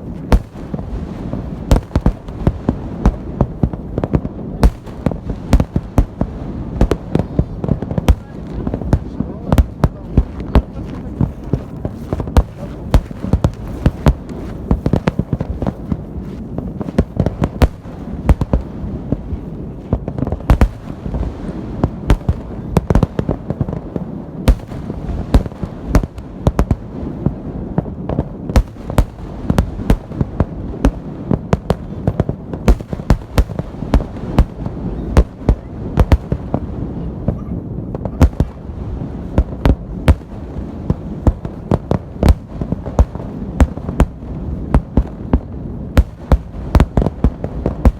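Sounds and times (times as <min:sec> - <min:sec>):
fireworks bursting with sharp bangs: 0:00.0 - 0:47.9
rumble of echoing booms: 0:00.0 - 0:47.9.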